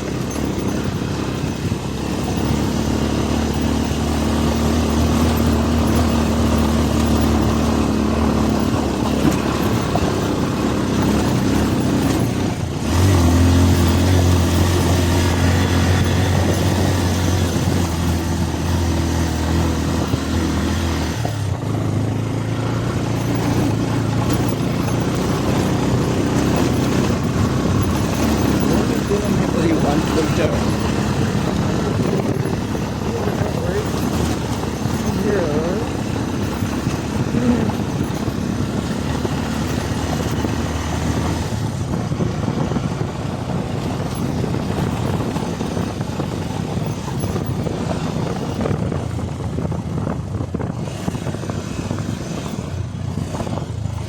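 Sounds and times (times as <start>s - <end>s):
motorcycle engine running: 0.0s - 54.0s
road noise: 0.0s - 54.0s
wind noise: 0.0s - 54.0s.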